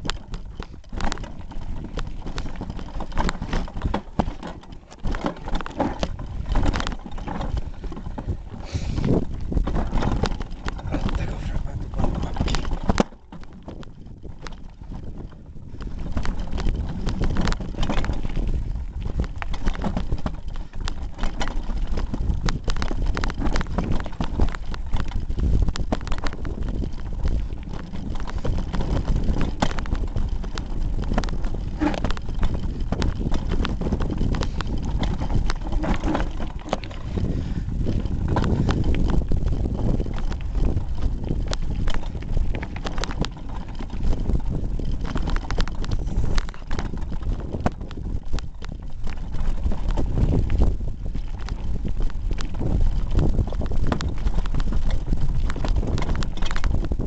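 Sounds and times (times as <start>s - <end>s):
bike rattling over stones: 0.0s - 57.0s.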